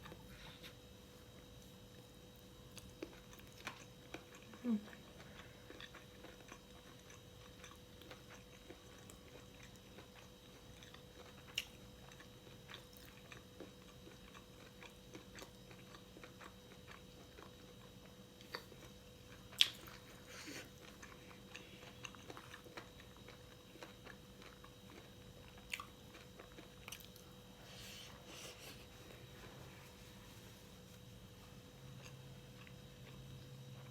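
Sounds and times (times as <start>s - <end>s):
person chewing food: 0.0s - 29.7s, 30.7s - 33.9s.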